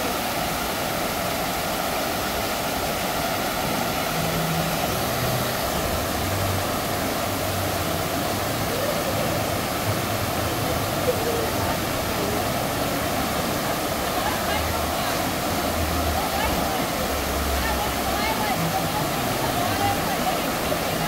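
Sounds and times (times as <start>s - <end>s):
waterfall water splashing: 0.0s - 21.0s.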